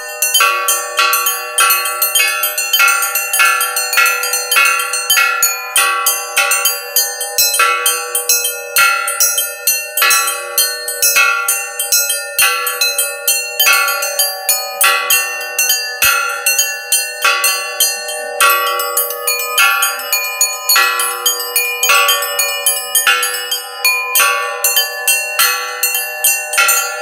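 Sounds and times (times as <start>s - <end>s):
metal cylinders struck like bells: 0.0s - 27.0s.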